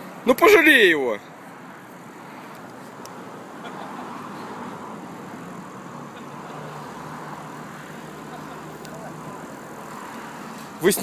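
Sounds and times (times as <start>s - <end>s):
distant road traffic: 0.0s - 11.0s.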